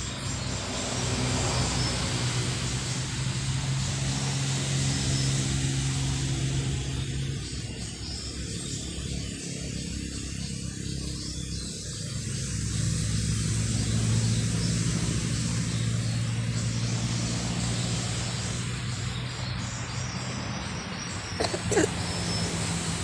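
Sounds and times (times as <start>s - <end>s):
distant motor droning: 0.0s - 23.0s.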